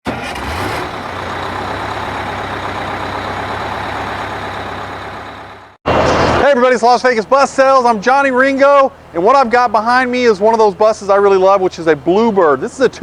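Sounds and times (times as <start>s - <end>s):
bus diesel engine humming: 0.1s - 13.0s.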